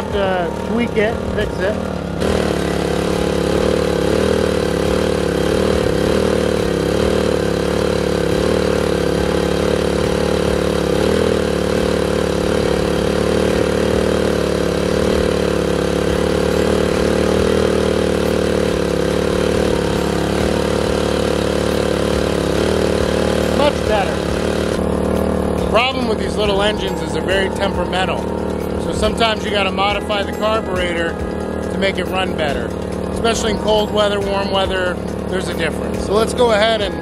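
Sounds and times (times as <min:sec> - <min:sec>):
generator engine running: 0:00.0 - 0:37.0.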